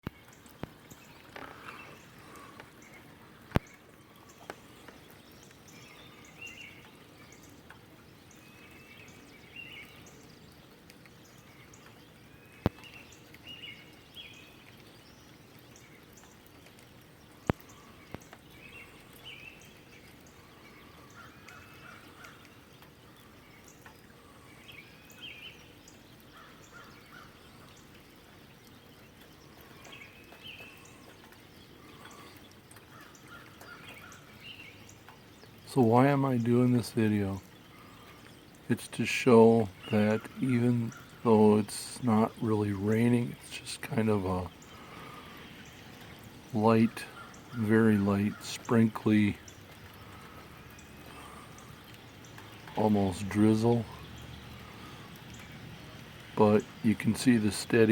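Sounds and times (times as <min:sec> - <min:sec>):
light drizzle: 0:00.0 - 0:57.9
sharp drips: 0:00.0 - 0:57.9
songbirds chirping: 0:00.0 - 0:57.9
water running from downspout: 0:00.0 - 0:57.9.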